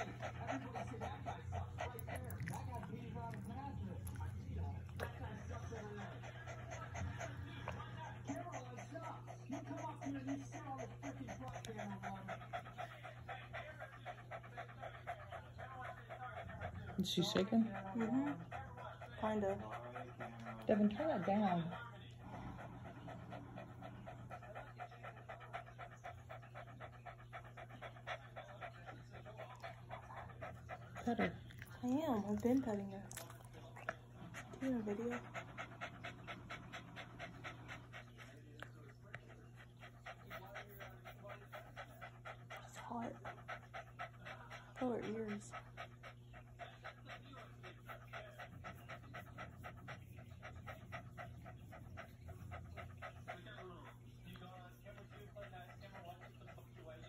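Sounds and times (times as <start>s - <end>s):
dog panting hard: 0.0s - 57.0s.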